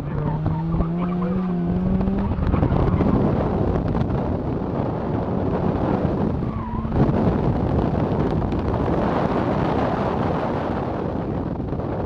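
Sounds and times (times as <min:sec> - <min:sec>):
car engine accelerating hard: 0:00.0 - 0:11.9
tyre and wind rumble: 0:00.0 - 0:12.0.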